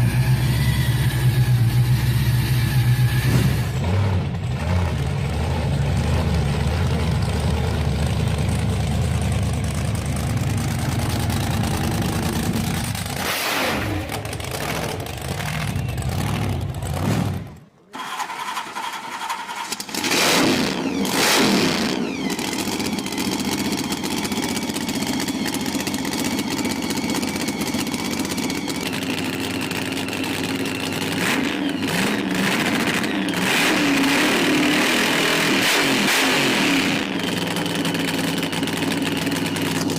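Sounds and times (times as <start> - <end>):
car engine rumbling: 0.0 - 39.9
engine revving: 0.0 - 39.9.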